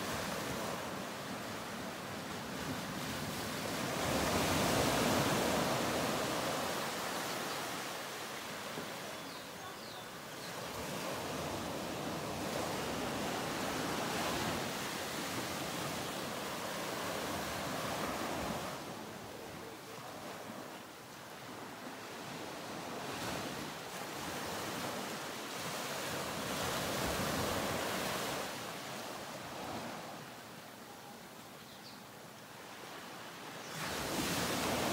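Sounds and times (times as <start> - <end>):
ocean surf washing ashore: 0.0 - 30.6, 32.6 - 34.9.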